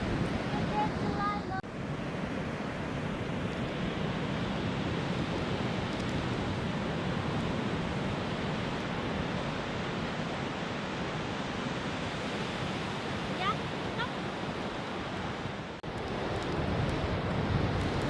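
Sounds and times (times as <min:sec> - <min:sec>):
ocean surf: 0:00.0 - 0:18.0
wind: 0:00.0 - 0:18.0.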